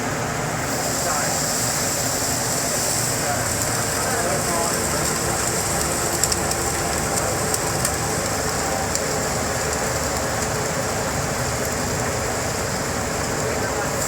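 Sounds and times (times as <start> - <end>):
hot oil pouring and sizzling: 0.1 - 14.0
sharp oil crackles: 0.3 - 14.0.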